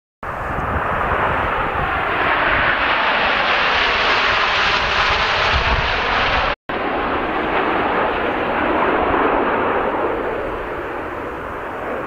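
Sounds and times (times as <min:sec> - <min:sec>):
jets flying past: 0:00.2 - 0:12.0.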